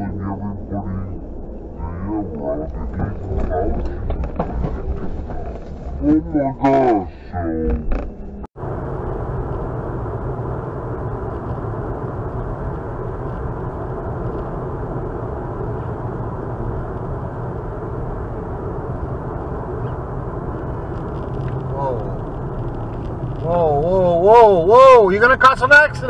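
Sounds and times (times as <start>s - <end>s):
road and tyre noise: 0.0s - 26.0s.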